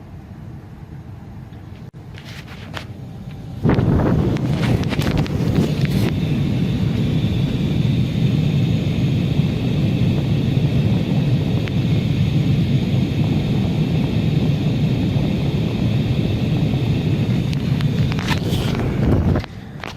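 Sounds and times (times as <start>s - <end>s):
air handler blower running: 2.0s - 19.9s.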